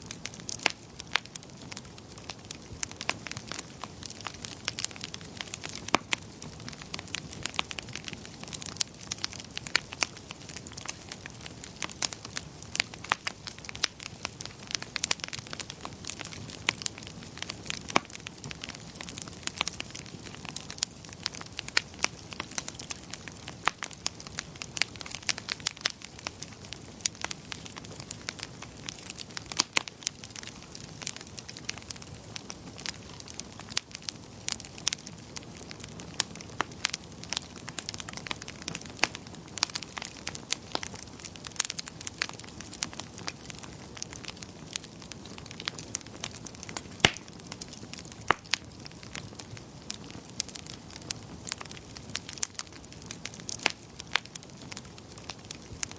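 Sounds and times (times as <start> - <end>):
soft hiss of burning: 0.0 - 55.9
wood fire popping and snapping: 0.0 - 55.9.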